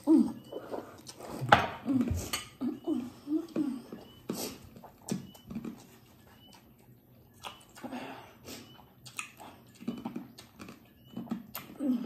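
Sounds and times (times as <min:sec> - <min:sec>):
people chewing noodles: 0:00.0 - 0:12.0.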